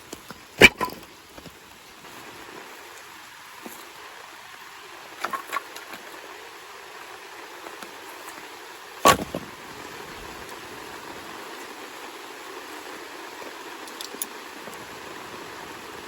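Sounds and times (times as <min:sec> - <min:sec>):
rain hiss: 0:00.0 - 0:16.0.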